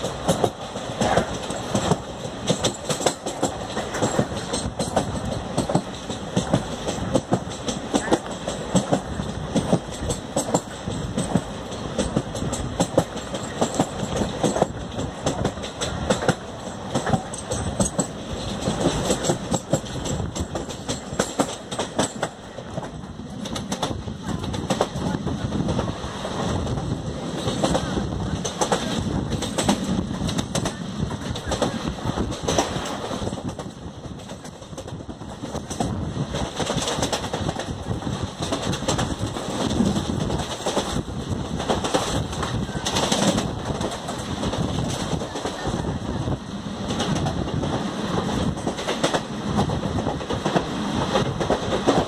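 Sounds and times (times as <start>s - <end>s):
train wheels clattering over rail joints: 0.0s - 52.0s.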